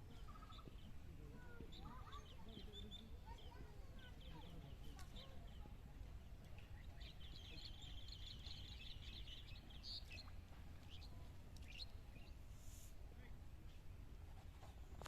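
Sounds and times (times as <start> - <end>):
birds chirping: 0.1 - 12.4.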